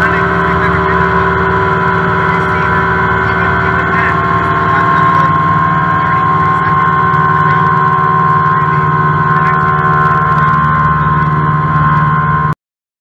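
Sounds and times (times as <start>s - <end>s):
aircraft engine and propeller drone: 0.0s - 12.6s
constant high tone: 0.0s - 12.6s.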